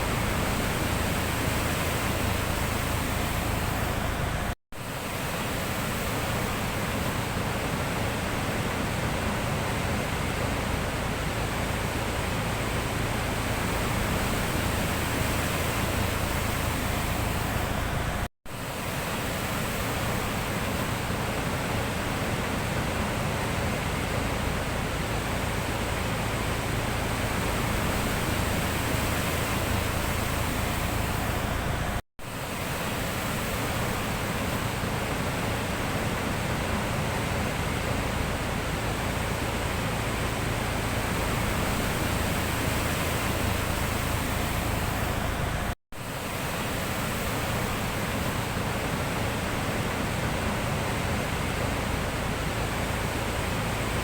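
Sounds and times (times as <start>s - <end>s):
sea surf washing: 0.0s - 54.0s.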